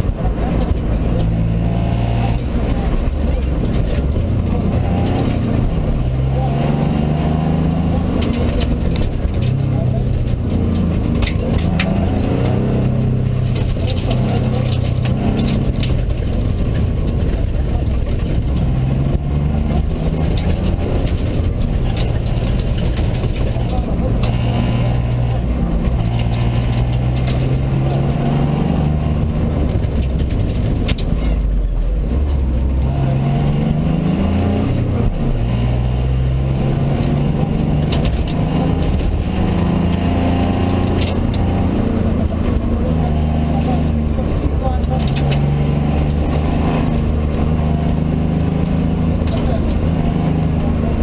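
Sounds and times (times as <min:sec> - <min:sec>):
car engine revving hard: 0:00.0 - 0:51.0
road and tyre noise: 0:00.0 - 0:51.0.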